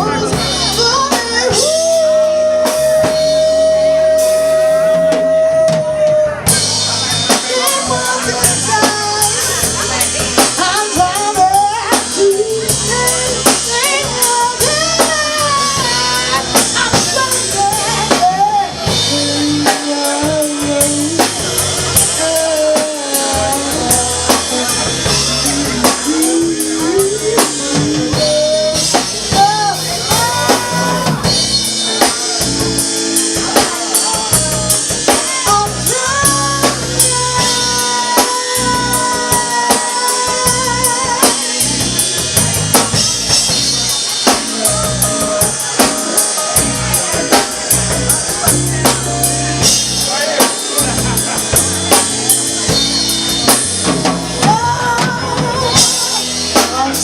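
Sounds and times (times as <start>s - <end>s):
drum kit beat: 0.0s - 57.0s
live band music: 0.0s - 57.0s.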